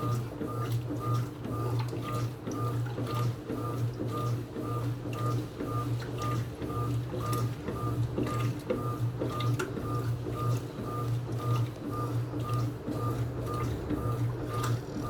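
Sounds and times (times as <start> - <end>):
washing machine pulsing hum: 0.0 - 15.0.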